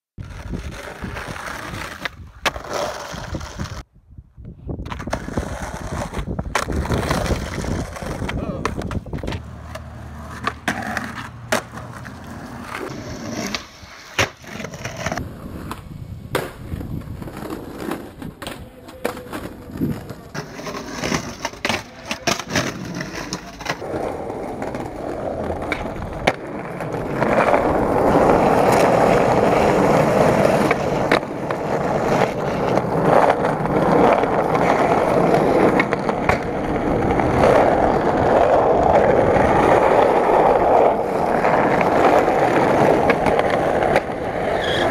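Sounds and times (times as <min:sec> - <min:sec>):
skateboard wheels rumbling on concrete: 0:00.2 - 0:44.9
skateboard clacks: 0:04.8 - 0:44.9.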